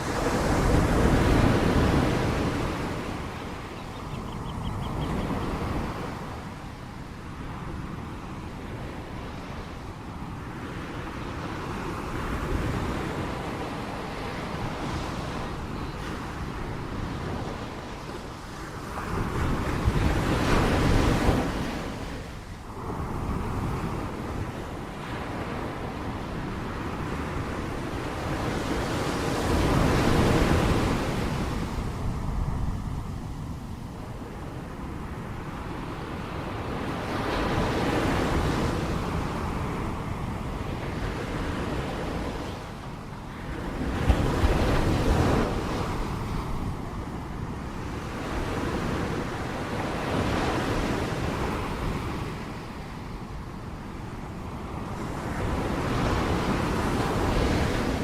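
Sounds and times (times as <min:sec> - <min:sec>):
ocean waves breaking: 0:00.0 - 0:58.0
steady rush of sea: 0:00.0 - 0:58.0.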